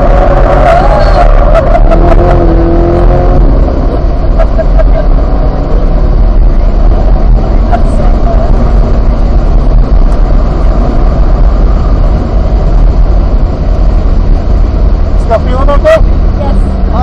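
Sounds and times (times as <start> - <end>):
car engine pulling hard: 0.0 - 17.0
road and wind noise: 0.0 - 17.0.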